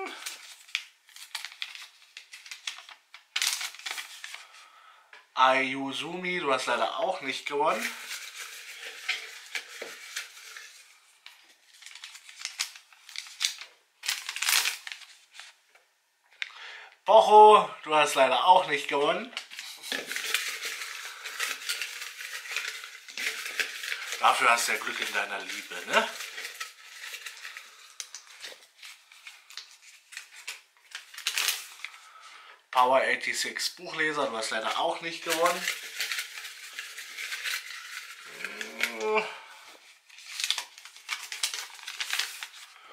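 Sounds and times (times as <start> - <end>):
paper rustling and crinkling: 0.0 - 4.6, 7.6 - 15.8, 19.2 - 32.3, 33.9 - 42.9.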